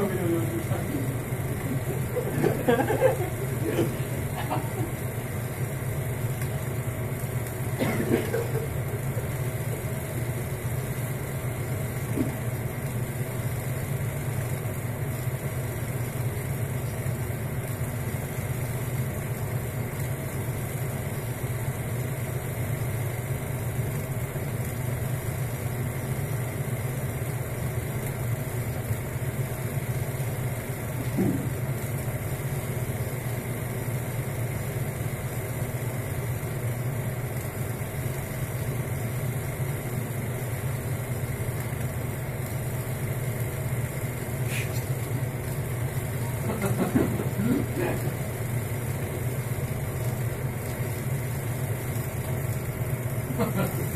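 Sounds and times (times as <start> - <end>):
film projector running: 0.0 - 53.9.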